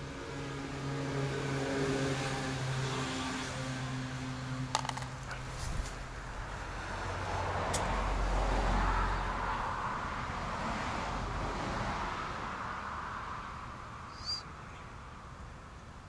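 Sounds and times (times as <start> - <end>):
passing vehicle road noise: 0.0 - 16.0.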